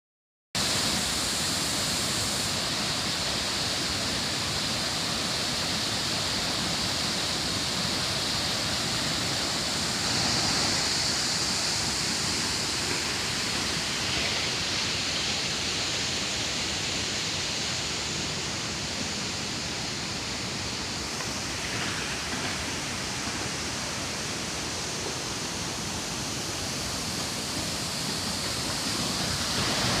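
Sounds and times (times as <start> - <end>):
waterfall rushing: 0.6 - 30.0.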